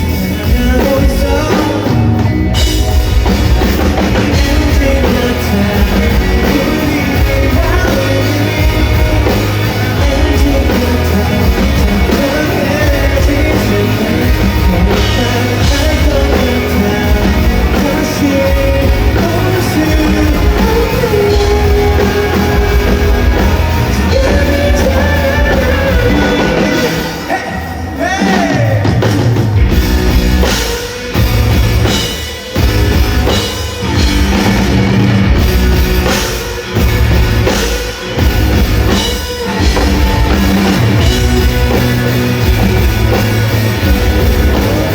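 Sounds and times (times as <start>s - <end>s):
lead vocal singing: 0.0s - 29.7s, 36.0s - 44.9s
live rock band playing: 0.0s - 44.9s.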